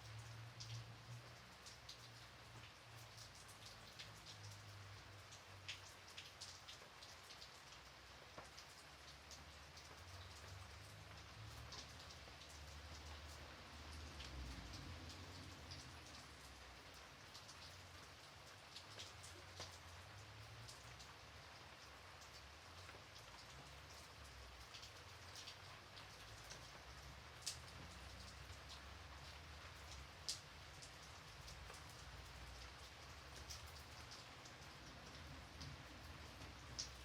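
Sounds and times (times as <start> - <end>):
gentle rain with ticking drops: 0.0 - 37.0.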